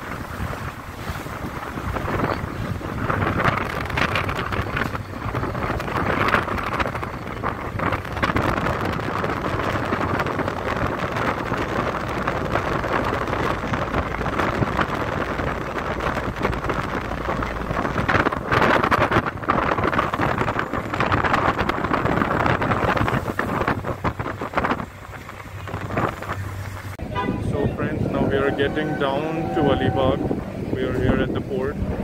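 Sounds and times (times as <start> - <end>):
ship running noise: 0.0 - 32.0
wind on microphone: 0.0 - 32.0.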